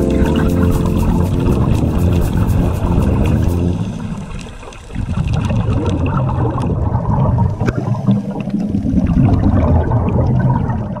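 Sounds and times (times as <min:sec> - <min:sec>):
exhaled bubbles underwater: 0:00.0 - 0:11.0
muffled underwater water rumble: 0:00.0 - 0:11.0.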